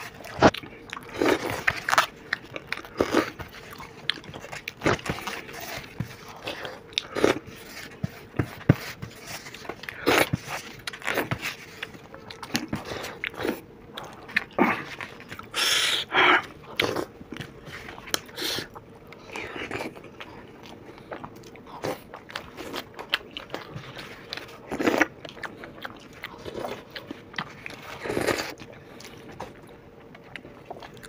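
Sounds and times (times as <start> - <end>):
close-miked chewing: 0.0 - 31.0.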